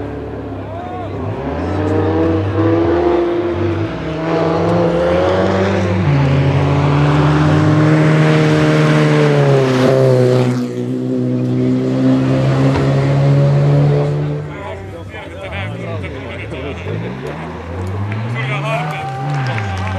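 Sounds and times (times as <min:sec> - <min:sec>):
rally car engine at full throttle: 0:00.0 - 0:19.9.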